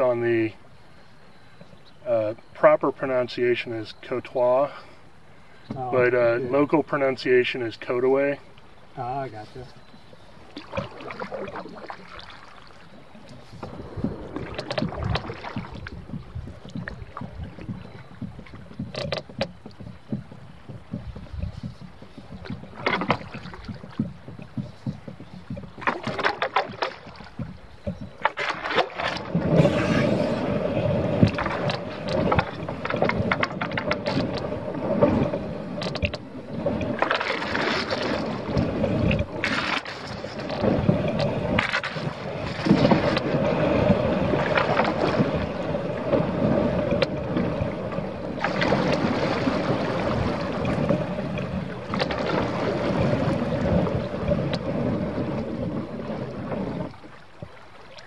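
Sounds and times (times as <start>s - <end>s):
paddle strokes and splashing water: 0.0s - 58.0s
water rushing along a hull: 0.0s - 58.0s.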